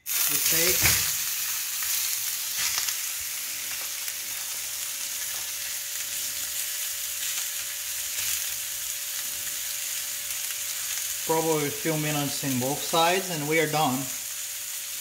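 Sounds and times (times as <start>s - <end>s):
steak sizzling in grill pan: 0.0s - 15.0s.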